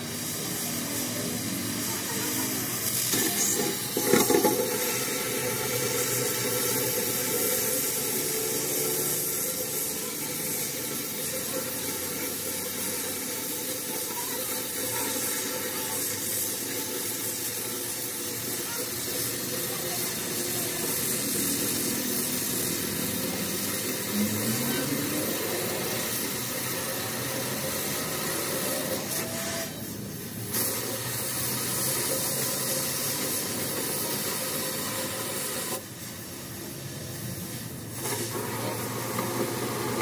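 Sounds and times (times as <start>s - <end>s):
cutting torch hissing: 0.0s - 40.0s.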